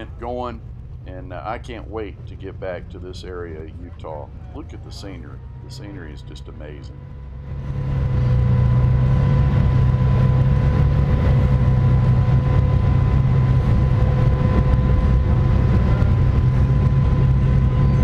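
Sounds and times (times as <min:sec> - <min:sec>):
buggy engine running at low speed: 0:00.0 - 0:18.0
faint steady whine: 0:00.0 - 0:18.0.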